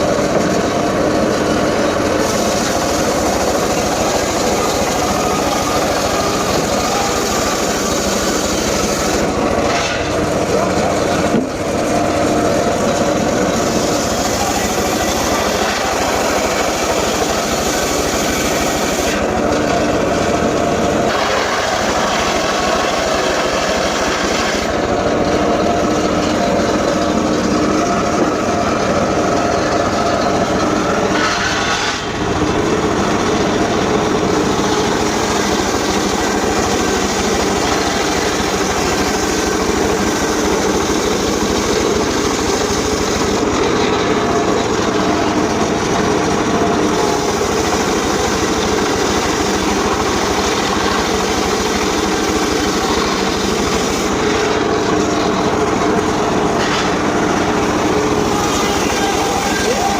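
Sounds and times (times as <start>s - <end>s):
engine saw cutting timber: 0.0s - 59.9s.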